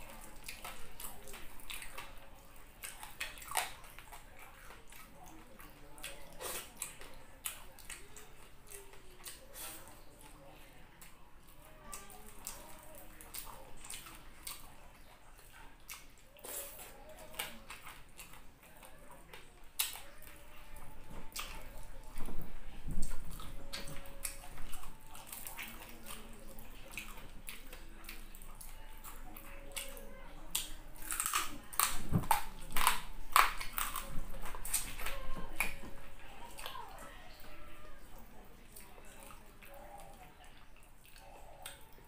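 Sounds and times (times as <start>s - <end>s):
wet chewing and lip smacks: 0.0s - 36.8s.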